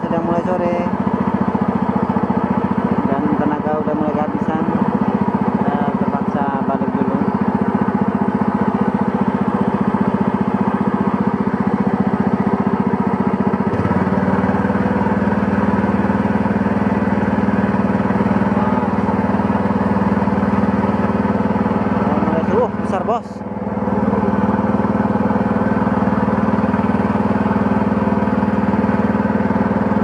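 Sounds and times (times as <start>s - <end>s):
boat engine puttering: 0.0s - 30.0s.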